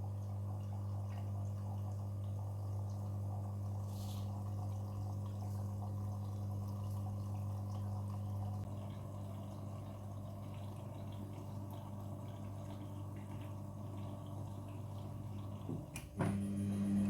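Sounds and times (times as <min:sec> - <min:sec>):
water trickling into drum: 0:00.0 - 0:16.0
washing machine hum: 0:00.0 - 0:17.0.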